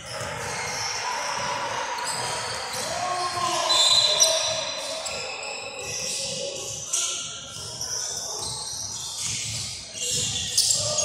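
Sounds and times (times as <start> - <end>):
shoe squeaks: 2.0 - 11.0.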